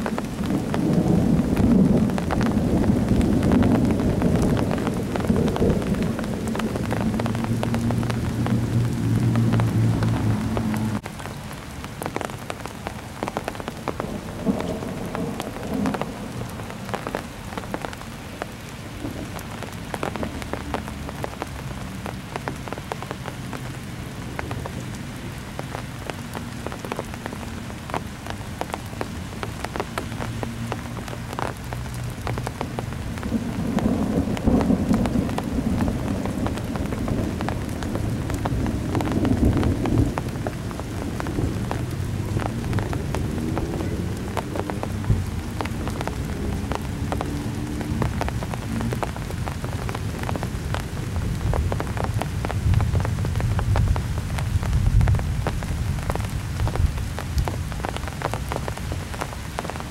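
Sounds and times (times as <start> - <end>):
thunder rumble: 0.0 - 11.3, 12.0 - 23.4, 24.2 - 59.9
steady rain: 0.0 - 59.9.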